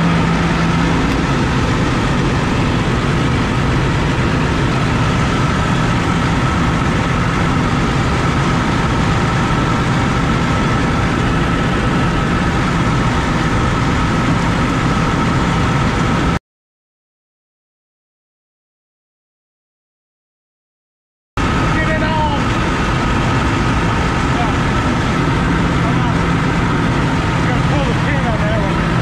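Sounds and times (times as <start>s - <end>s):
diesel engine idling: 0.0s - 16.4s, 21.4s - 29.0s
steady whine: 0.0s - 16.4s, 21.4s - 29.0s.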